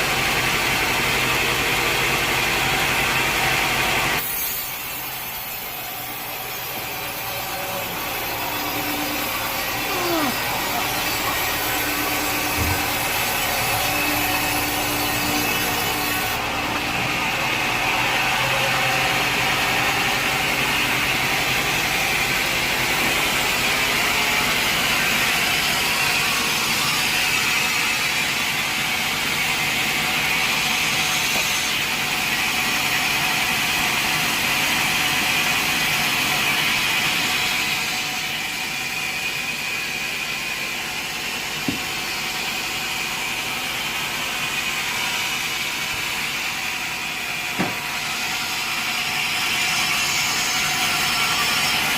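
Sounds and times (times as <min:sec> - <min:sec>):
band sawmill sawing timber: 0:00.0 - 0:51.9.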